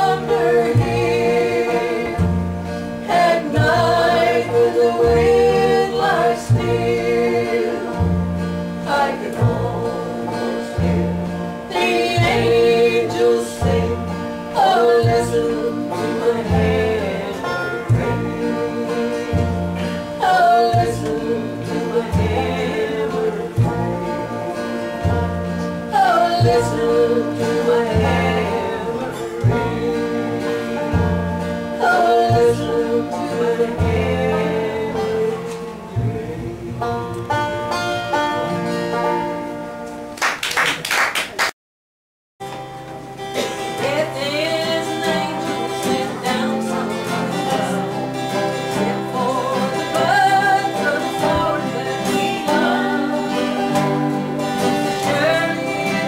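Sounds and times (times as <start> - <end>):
slide guitar: 0.0 - 40.2, 42.4 - 56.0
banjo: 0.0 - 40.4, 42.4 - 56.0
plucked upright bass: 0.0 - 40.4, 42.5 - 56.0
acoustic guitar: 0.0 - 41.4, 42.4 - 56.0.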